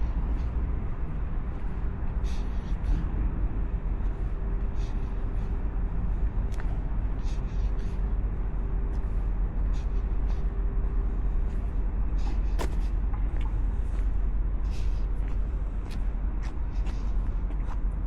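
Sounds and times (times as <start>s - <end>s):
faint steady hum: 0.0s - 18.0s
low urban rumble: 0.0s - 18.0s.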